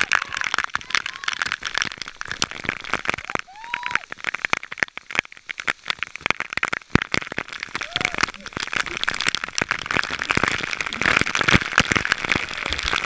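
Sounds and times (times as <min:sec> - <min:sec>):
rush of falling water: 0:00.0 - 0:13.0
water drops pattering on camera: 0:00.0 - 0:13.0.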